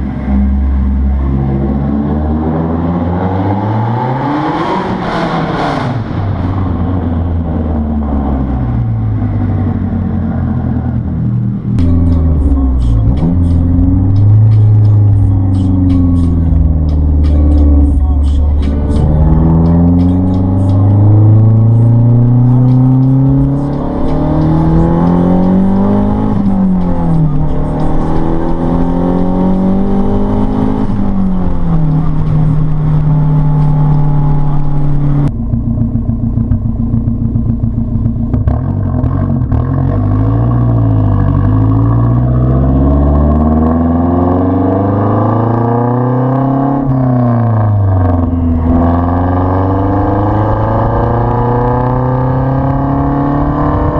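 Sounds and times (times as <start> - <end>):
car exhaust note revving: 6.0 - 53.9.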